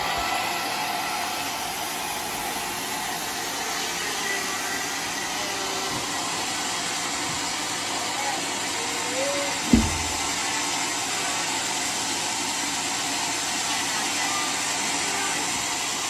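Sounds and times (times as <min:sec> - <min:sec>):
sawmill saw cutting log: 0:00.0 - 0:16.0.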